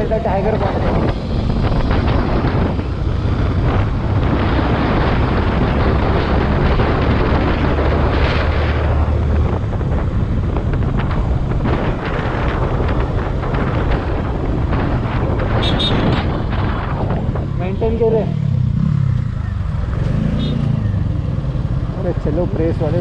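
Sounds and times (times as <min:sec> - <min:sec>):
motorcycle engine hum: 0:00.0 - 0:23.0
wind buffeting microphone: 0:00.0 - 0:23.0.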